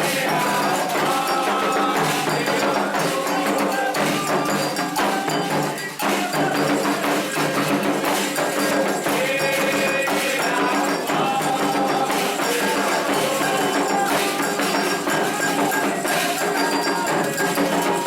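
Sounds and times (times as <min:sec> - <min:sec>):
hand drums: 0:00.0 - 0:18.0
voices chanting: 0:00.0 - 0:18.0.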